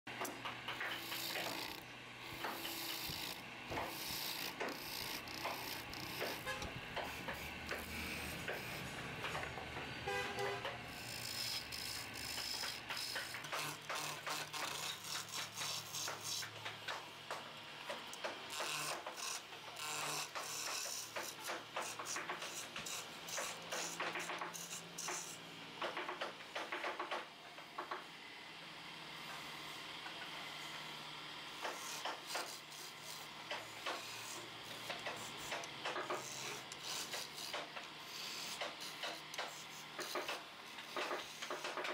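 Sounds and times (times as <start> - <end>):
lathe humming: 0.1 - 25.7, 28.3 - 41.9
chisel scraping wood: 0.5 - 27.0, 31.5 - 41.9.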